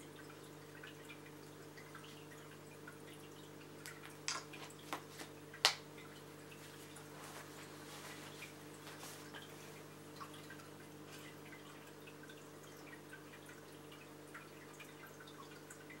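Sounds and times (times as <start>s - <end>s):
low steady hum: 0.0s - 16.0s
water dripping and trickling: 0.0s - 16.0s.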